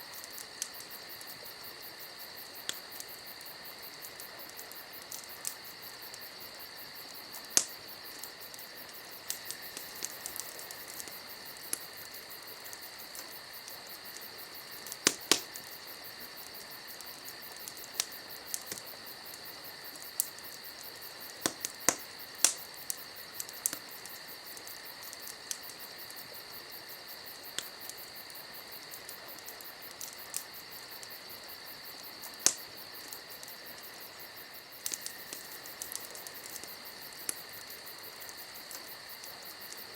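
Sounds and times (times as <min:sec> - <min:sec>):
steady high-pitched hiss: 0:00.0 - 0:39.9
wood fire popping and snapping: 0:00.0 - 0:39.9.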